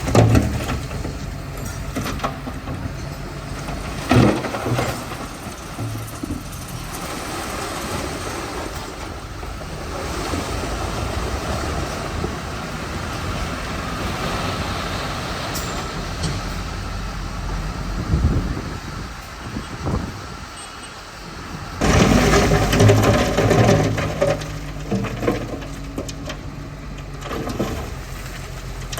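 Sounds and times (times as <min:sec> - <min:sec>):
bulldozer diesel engine running: 0:00.0 - 0:28.9.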